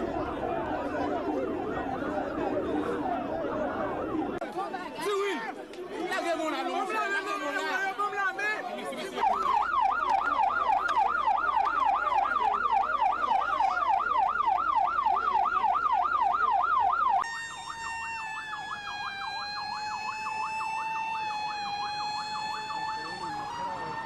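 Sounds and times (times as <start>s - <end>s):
electronic siren yelping: 0.0s - 4.4s, 9.2s - 24.0s
slowly falling siren tone: 0.0s - 4.4s, 9.2s - 24.0s.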